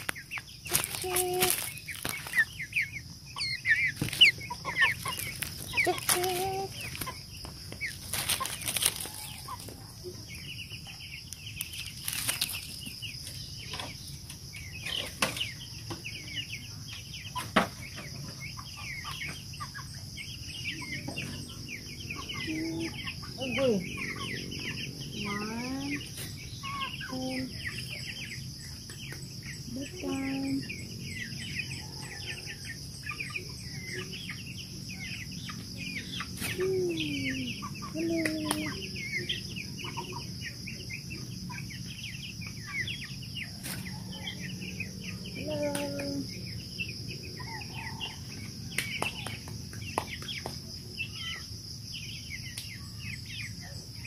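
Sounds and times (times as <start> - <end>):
chickens clucking: 0.0 - 54.0
high chick chirps: 0.0 - 54.0
high insect drone: 0.0 - 54.0.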